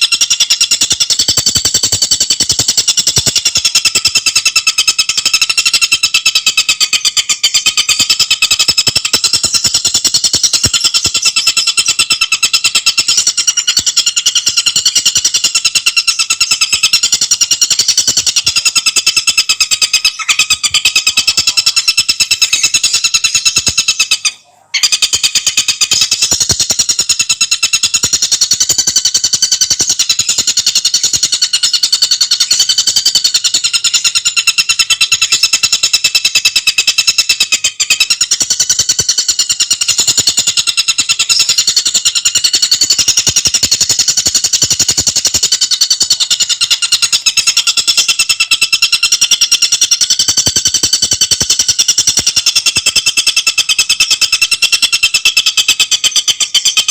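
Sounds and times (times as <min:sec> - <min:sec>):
bird singing a rattling trill: 0:00.0 - 0:56.9.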